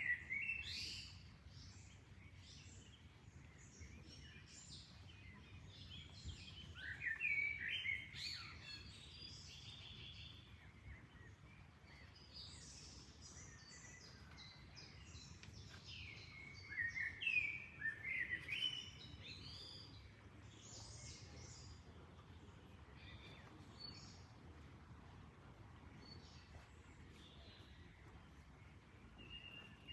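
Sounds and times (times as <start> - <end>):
faint low background noise: 0.0 - 29.9
songbirds chirping: 0.0 - 29.9.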